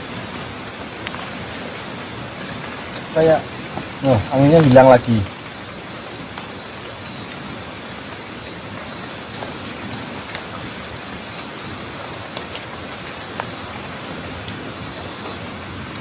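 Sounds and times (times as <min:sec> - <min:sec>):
forest rushing hiss: 0:00.0 - 0:16.0
high insect drone: 0:00.0 - 0:16.0.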